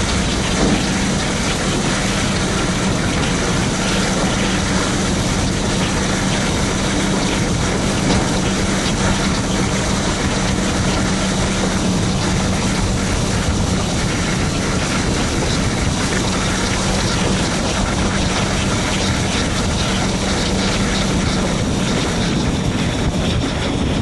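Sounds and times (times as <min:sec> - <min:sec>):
locomotive engine drone: 0:00.0 - 0:24.0
wind rushing over microphone: 0:00.0 - 0:24.0.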